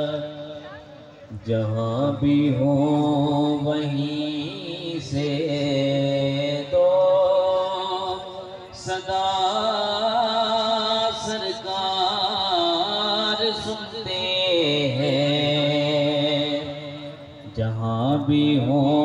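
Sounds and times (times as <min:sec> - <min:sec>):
man singing: 0:00.0 - 0:00.6, 0:01.3 - 0:19.0.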